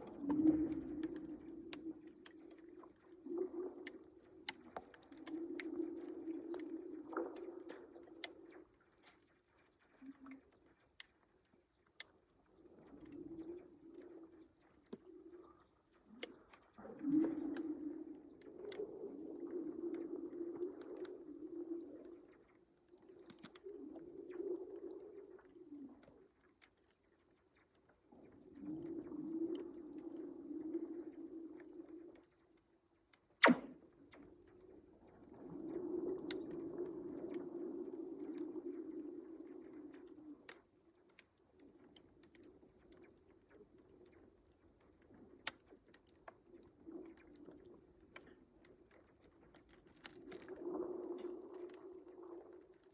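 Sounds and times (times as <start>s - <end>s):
small ice ticks: 0.0s - 52.9s.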